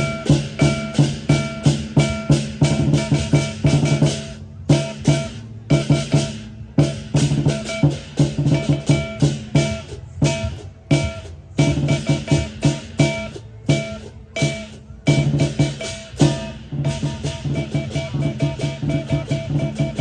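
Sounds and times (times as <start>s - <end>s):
bass and drums: 0.0s - 20.0s.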